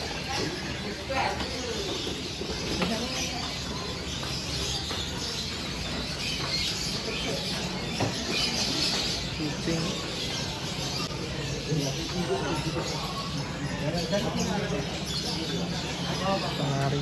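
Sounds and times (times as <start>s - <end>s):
faint voices: 0.0s - 17.0s
songbirds chirping and twittering: 0.0s - 17.0s.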